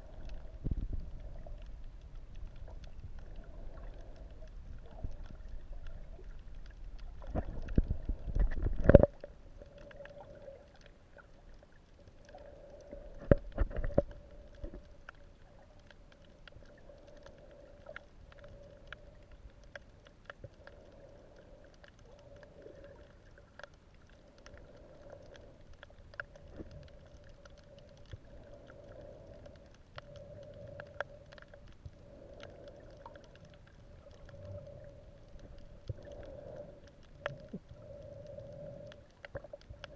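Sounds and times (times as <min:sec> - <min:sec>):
underwater wavering hum: 0:00.0 - 0:39.9.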